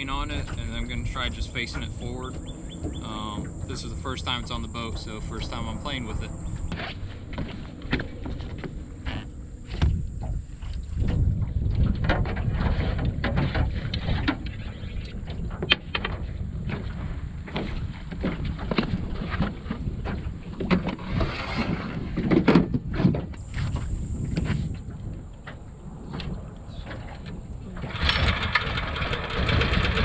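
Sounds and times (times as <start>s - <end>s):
knocks and thumps on aluminum boat: 0.0s - 3.7s, 4.5s - 25.6s
wind buffeting microphone: 0.0s - 30.0s.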